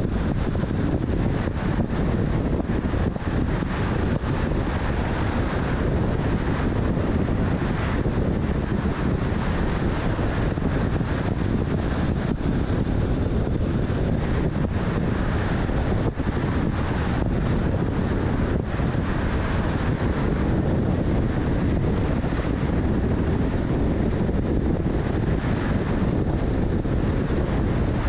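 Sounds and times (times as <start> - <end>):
wind and road noise: 0.0 - 28.0
wind buffeting microphone: 0.0 - 28.0.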